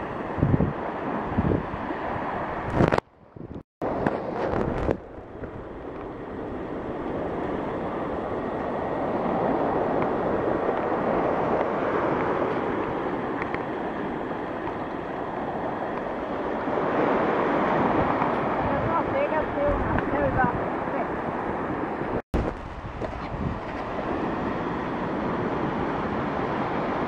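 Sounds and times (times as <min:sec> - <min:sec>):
small waves breaking on beach: 0:00.0 - 0:02.9, 0:03.8 - 0:27.0
wind on microphone: 0:00.0 - 0:27.0.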